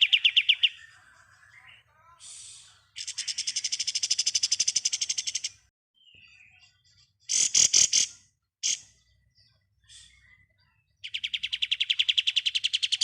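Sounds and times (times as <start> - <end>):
bird singing a rattling trill: 0.0 - 0.9, 3.0 - 13.0.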